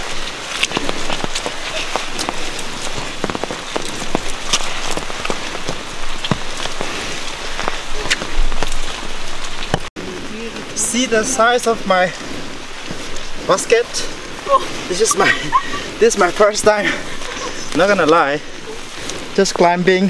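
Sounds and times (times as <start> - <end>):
leaves and branches crackling: 0.0 - 20.0.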